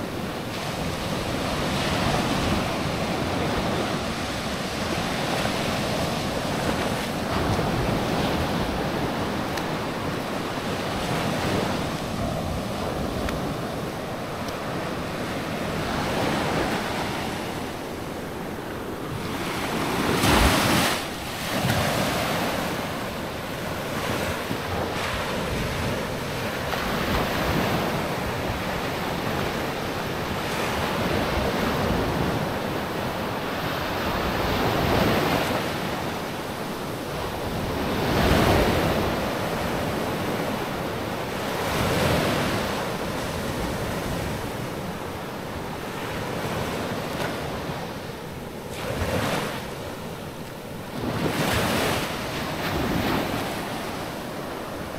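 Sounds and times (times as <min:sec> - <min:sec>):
wind on microphone: 0:00.0 - 0:54.9.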